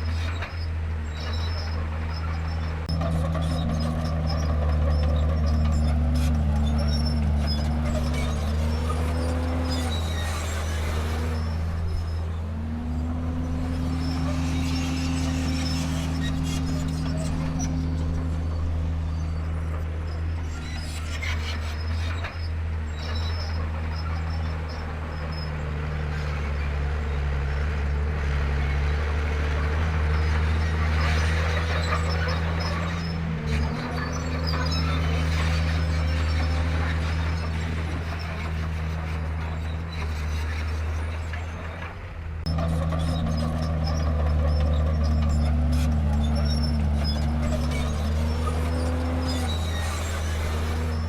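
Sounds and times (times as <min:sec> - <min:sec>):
bulldozer diesel engine running: 0:00.0 - 0:51.0
high metallic squeaks: 0:00.1 - 0:26.3, 0:29.8 - 0:41.8, 0:42.5 - 0:51.0.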